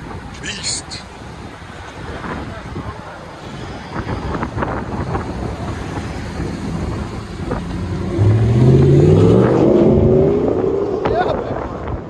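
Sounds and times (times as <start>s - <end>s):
truck engine rumbling and revving: 0.0s - 12.0s.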